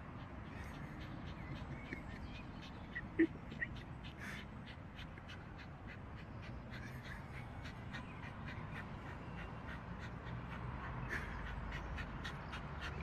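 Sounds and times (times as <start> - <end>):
small dog panting and snuffling: 0.0 - 13.0.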